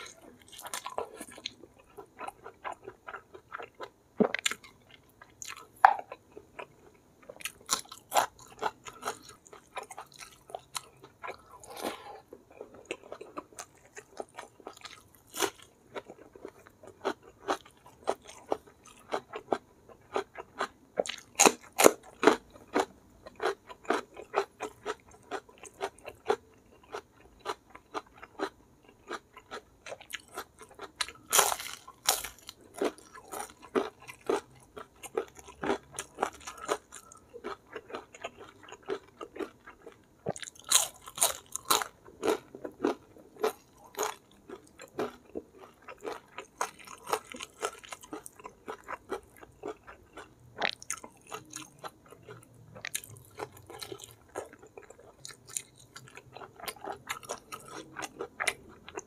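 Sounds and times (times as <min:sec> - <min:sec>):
close chewing and crunching: 0:00.0 - 0:59.0.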